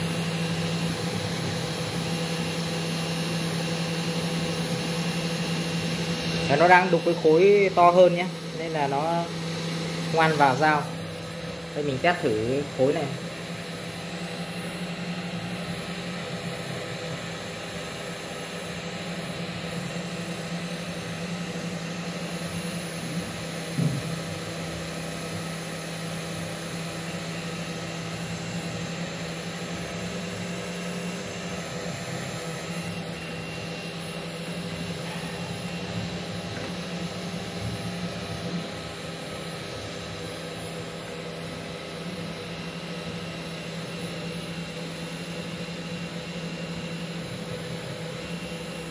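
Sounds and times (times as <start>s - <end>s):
machine spindle motor humming: 0.0s - 48.9s.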